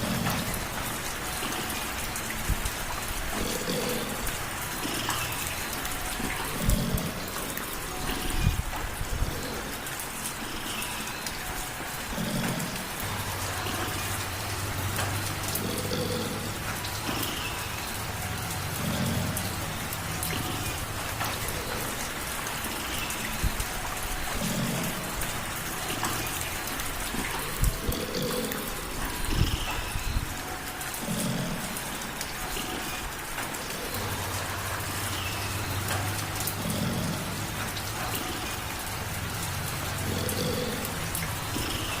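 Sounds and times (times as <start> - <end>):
light rain falling: 0.0 - 42.0
sharp raindrop ticks: 0.0 - 42.0.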